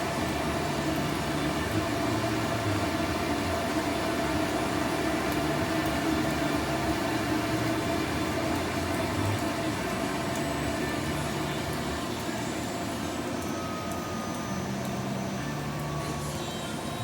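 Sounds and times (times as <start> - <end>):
machine drone: 0.0 - 17.0.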